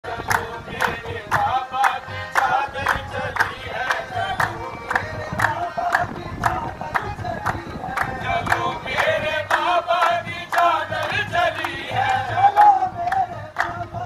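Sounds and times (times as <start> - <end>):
men chanting devotional song: 0.1 - 14.0
hand-clapping: 0.2 - 14.0.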